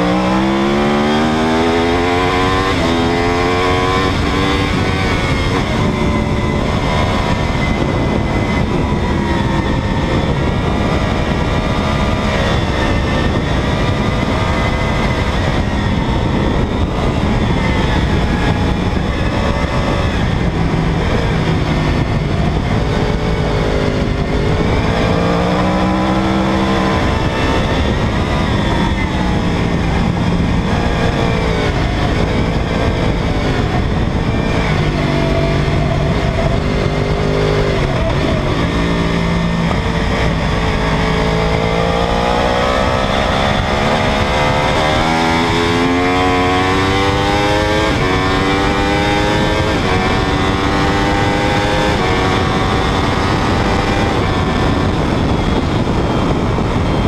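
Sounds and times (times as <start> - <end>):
heavy wind rush: 0.0 - 57.0
motorcycle engine revving at speed: 0.0 - 57.0.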